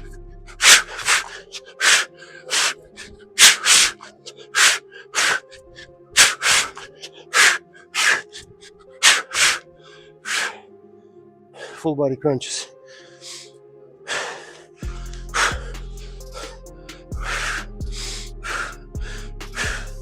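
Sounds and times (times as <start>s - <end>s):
man breathing hard: 0.0s - 11.8s, 12.5s - 20.0s
quiet background music: 0.0s - 20.0s.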